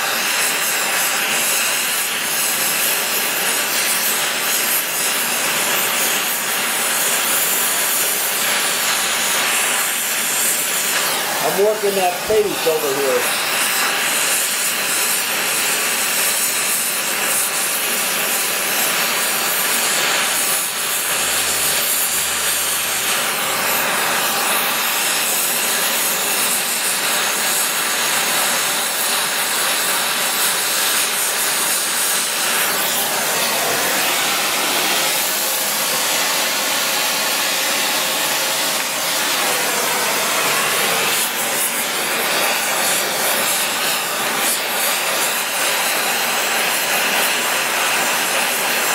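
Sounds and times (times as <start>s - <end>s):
torch flame hissing: 0.0s - 48.9s.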